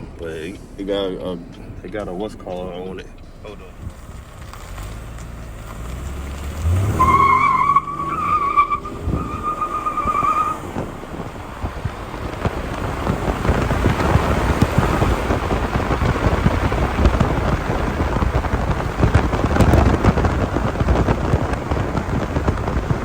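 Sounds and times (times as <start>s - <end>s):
tyres squealing: 0.0s - 20.6s
car engine revving: 0.0s - 23.0s
road and wind noise: 0.0s - 23.0s.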